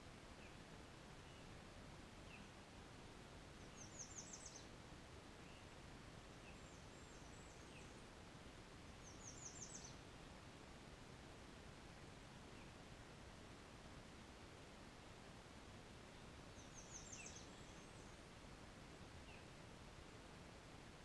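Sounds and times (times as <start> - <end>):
songbird singing: 0.0 - 10.3, 12.1 - 13.0, 15.0 - 21.0.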